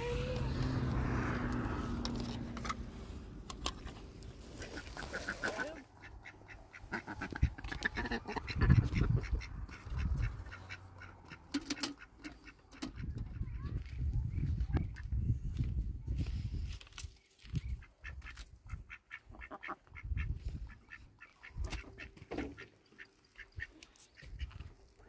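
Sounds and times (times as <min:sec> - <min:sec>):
farm birds calling: 0:00.0 - 0:15.6, 0:17.3 - 0:25.0.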